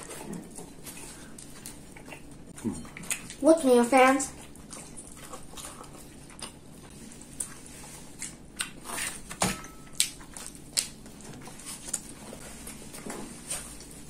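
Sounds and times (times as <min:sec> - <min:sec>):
chewing crunchy crust: 0:00.0 - 0:14.0.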